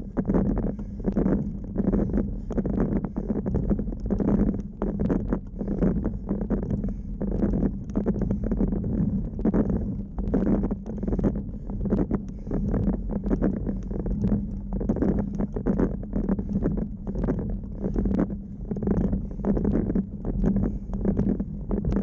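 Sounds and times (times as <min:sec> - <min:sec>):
bike hum with rhythmic pulses: 0:00.0 - 0:22.0.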